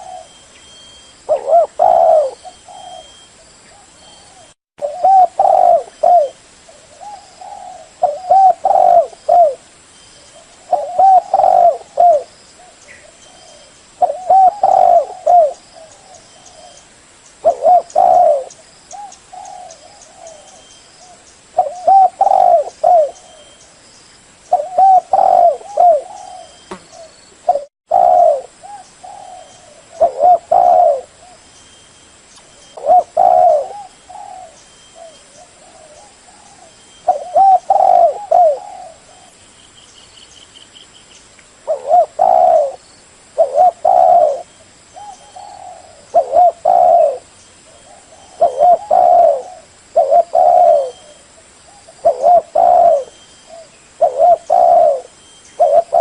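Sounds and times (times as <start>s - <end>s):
dove cooing: 0.0s - 0.4s, 1.3s - 9.6s, 10.4s - 16.8s, 17.4s - 23.6s, 24.5s - 31.4s, 32.8s - 39.4s, 41.6s - 42.8s, 43.4s - 56.0s.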